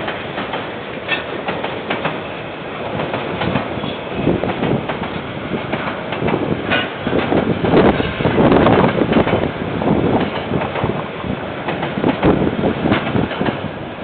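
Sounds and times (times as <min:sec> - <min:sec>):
train wheels clicking over rails: 0:00.0 - 0:14.0.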